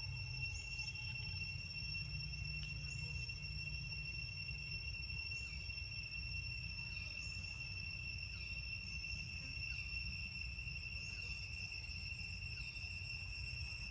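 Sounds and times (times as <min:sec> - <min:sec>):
insects droning high-pitched: 0:00.0 - 0:13.9.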